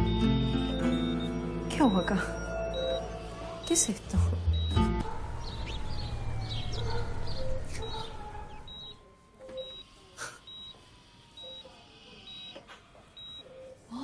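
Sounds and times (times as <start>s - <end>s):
patient monitor beeping: 0.0s - 14.0s.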